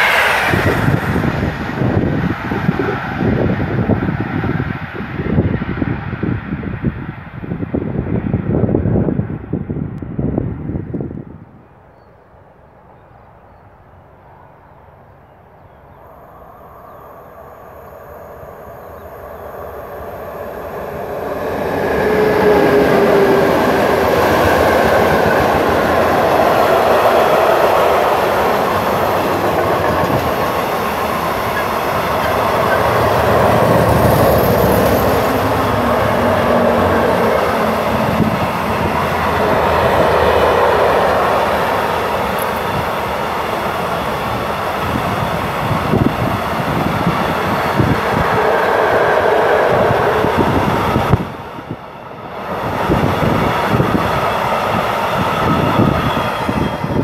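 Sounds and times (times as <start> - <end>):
train wheels rattling on track: 0.0 - 6.7, 16.6 - 57.0
freight train passing: 0.0 - 57.0.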